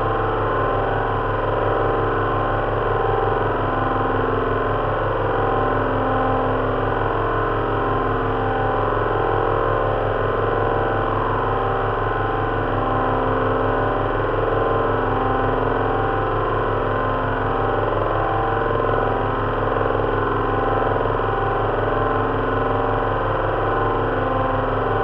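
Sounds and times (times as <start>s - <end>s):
simulated aircraft engine drone: 0.0s - 25.0s.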